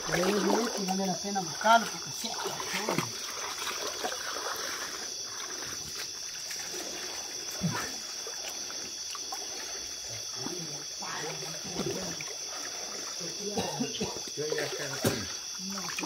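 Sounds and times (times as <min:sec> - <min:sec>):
night insects droning: 0:00.0 - 0:16.0
river water flowing: 0:00.0 - 0:16.0.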